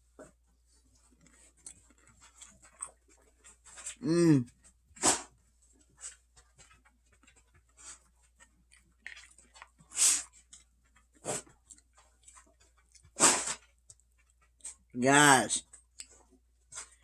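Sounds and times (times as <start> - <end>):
soft chewing and mouth clicks: 0.0 - 15.0, 15.6 - 17.0.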